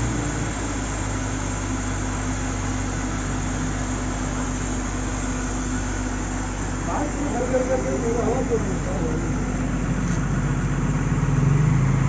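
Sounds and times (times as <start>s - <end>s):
air compressor engine running: 0.0s - 12.0s.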